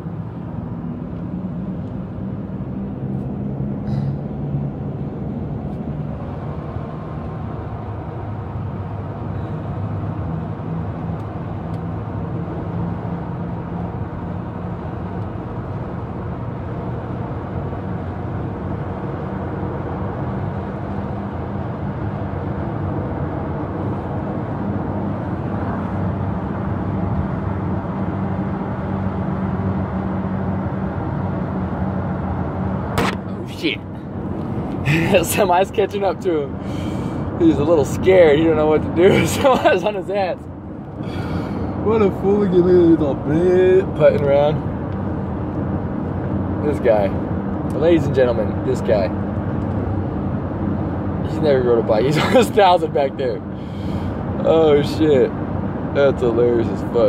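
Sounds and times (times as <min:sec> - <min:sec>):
road and engine noise in cabin: 0:00.0 - 0:57.0.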